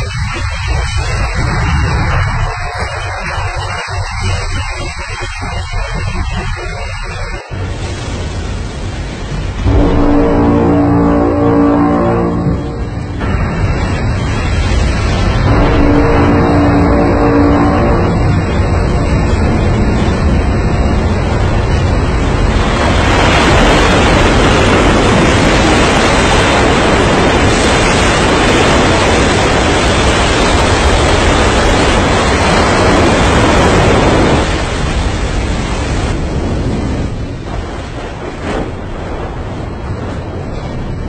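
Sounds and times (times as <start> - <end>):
rough sea water roaring: 0.0 - 41.0
wind noise: 0.0 - 41.0.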